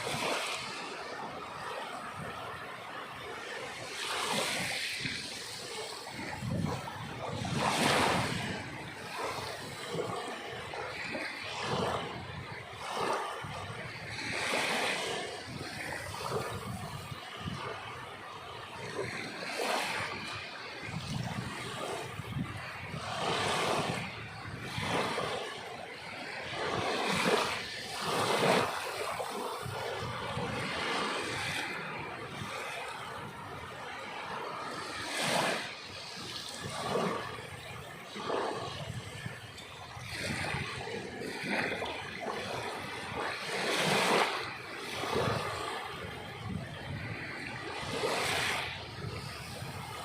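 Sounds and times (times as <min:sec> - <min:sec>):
waves washing in: 0:00.0 - 0:50.0.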